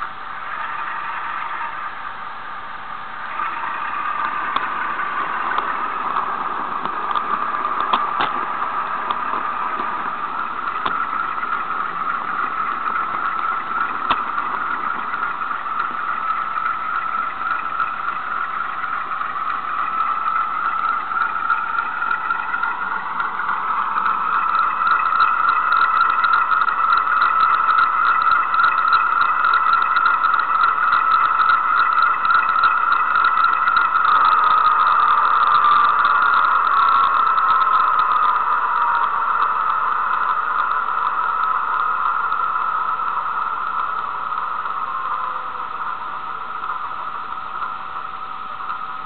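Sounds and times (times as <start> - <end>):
diesel engine sound from small speaker: 0.0 - 49.0.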